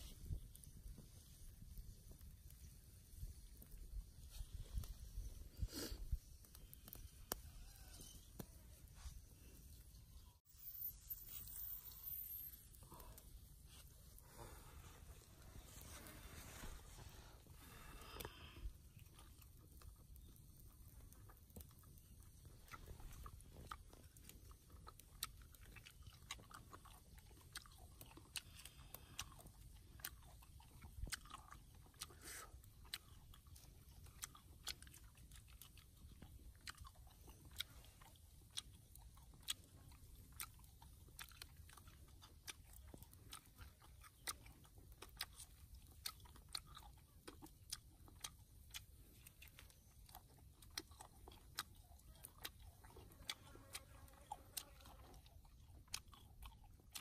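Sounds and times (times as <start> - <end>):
spider shell crunching as chewed: 10.8 - 57.0.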